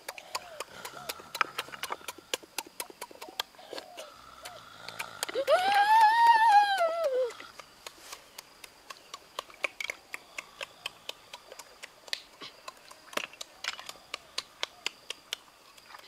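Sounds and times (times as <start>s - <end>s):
snail shells clicking: 0.0s - 5.9s, 6.8s - 15.9s.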